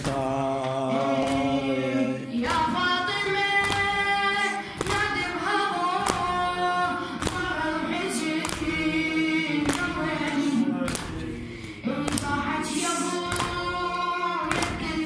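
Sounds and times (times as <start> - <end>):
unaccompanied mourning chant: 0.0 - 15.0.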